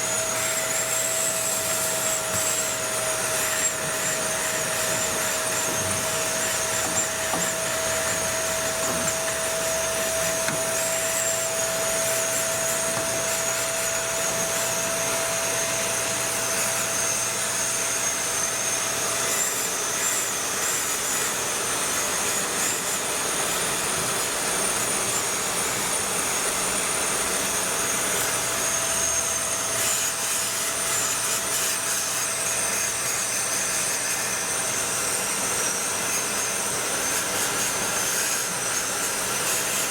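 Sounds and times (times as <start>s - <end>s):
electric cleaning motor whine: 0.0s - 39.9s.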